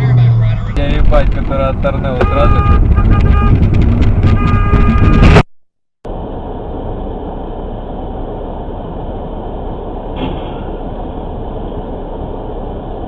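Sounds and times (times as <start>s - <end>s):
car driving road noise: 0.0s - 5.4s, 6.1s - 13.0s.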